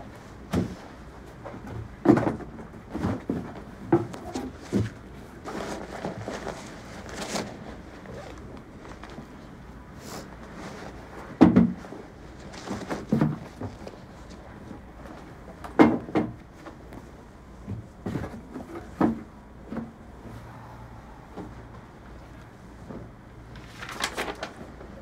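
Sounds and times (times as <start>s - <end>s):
steady low hum: 2.6s - 25.0s.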